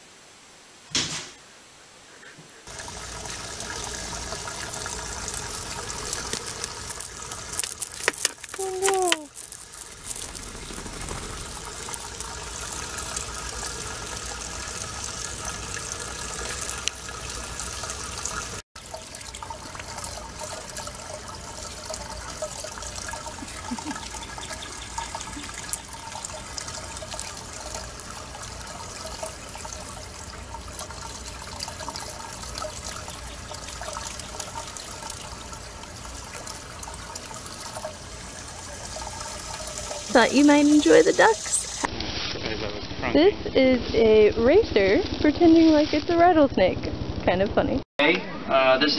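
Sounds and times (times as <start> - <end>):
water splashing: 2.7 - 42.2
water running from a hose: 2.7 - 42.8.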